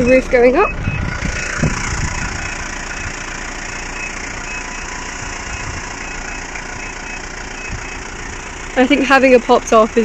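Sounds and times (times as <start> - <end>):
van engine idling: 0.0 - 10.0
electric roof motor: 0.2 - 8.8.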